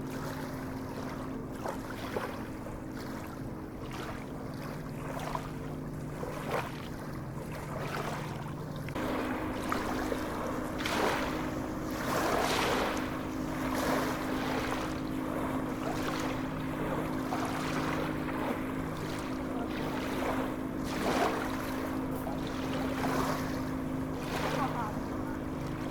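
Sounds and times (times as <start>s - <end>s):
sea waves washing: 0.0s - 25.9s
steady low hum: 0.0s - 25.9s.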